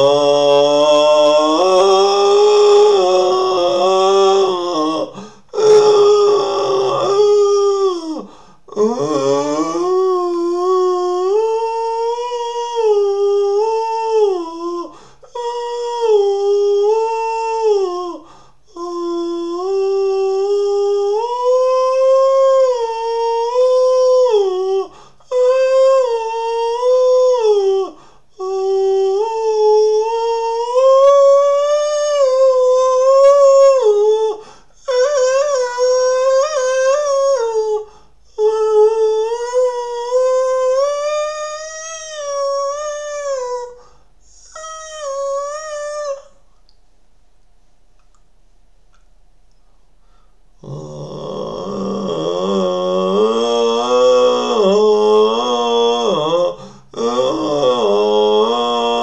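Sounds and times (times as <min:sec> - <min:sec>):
man singing wordless melody: 0:00.0 - 0:46.3, 0:50.6 - 0:59.0.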